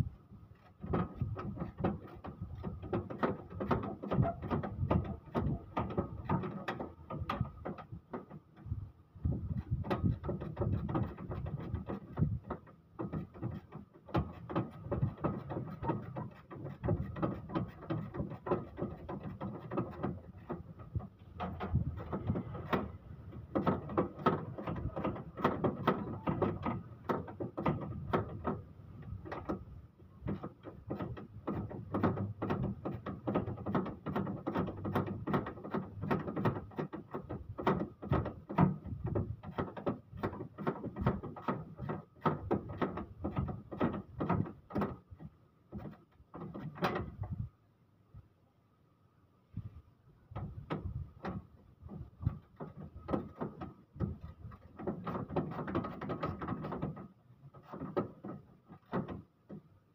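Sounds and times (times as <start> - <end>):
clicks and rattles of engine parts: 0.5 - 47.5, 50.3 - 59.8.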